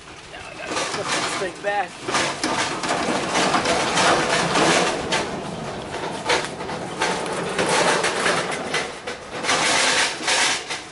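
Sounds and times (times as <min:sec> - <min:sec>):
casters rolling on rough ground: 0:00.0 - 0:10.9
metal grill rattling: 0:00.6 - 0:10.9.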